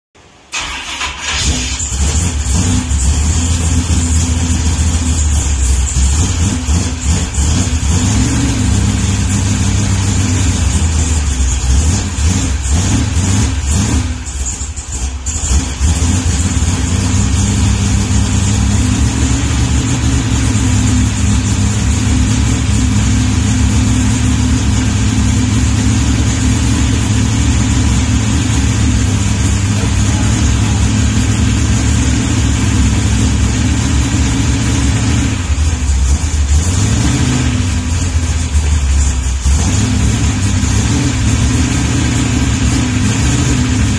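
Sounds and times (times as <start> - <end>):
car engine starting and idling: 0.2 - 43.9.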